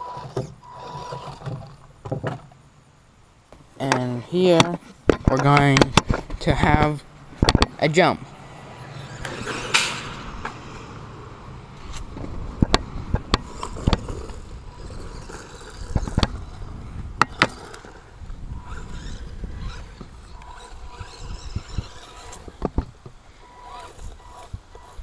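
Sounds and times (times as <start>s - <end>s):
remote-control truck rolling and scraping: 0.0s - 2.6s, 3.6s - 25.0s.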